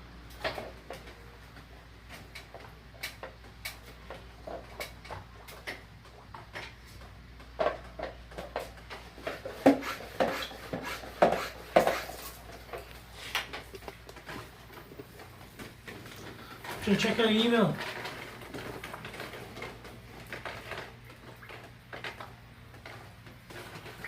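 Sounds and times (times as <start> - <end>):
hard parts clicking and clattering: 0.3 - 24.0.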